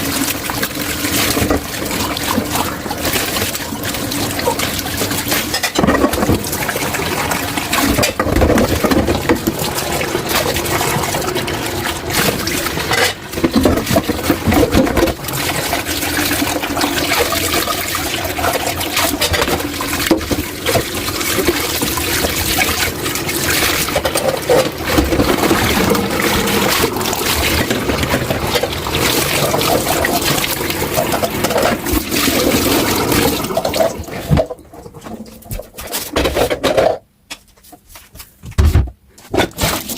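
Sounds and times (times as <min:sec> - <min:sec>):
tap water splashing into sink: 0:00.0 - 0:36.8.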